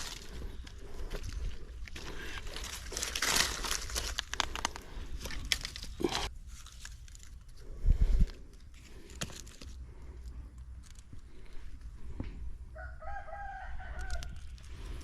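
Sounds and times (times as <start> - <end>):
rustling and crinkling: 0.0 - 12.4, 13.9 - 15.0.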